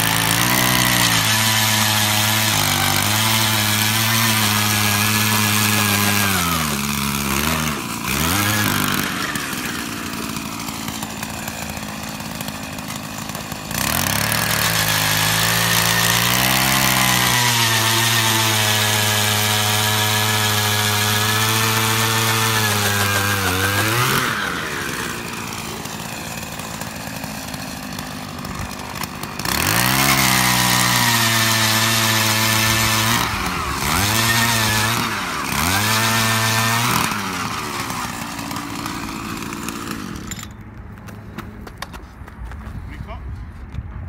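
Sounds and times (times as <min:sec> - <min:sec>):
ice auger engine revving: 0:00.0 - 0:40.8.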